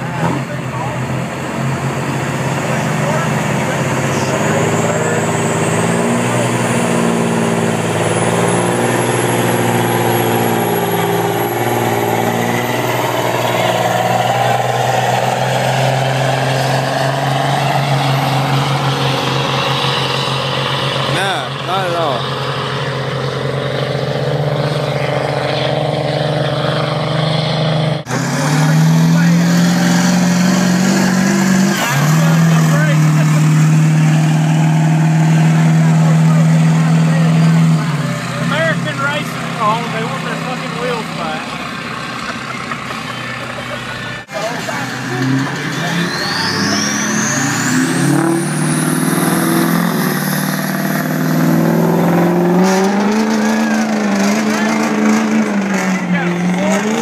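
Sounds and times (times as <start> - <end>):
engine droning at high revs: 0.0 - 57.0
high turbo whine: 0.0 - 57.0.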